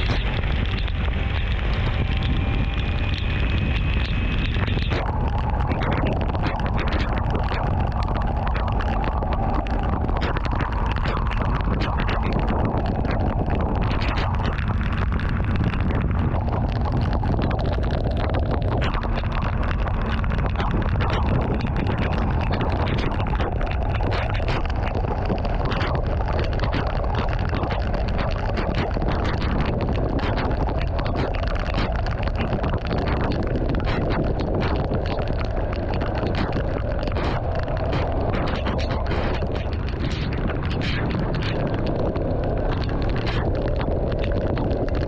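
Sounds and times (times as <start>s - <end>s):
raindrop ticks: 0.0s - 45.0s
road rumble: 0.0s - 45.0s
wind on microphone: 0.0s - 45.0s.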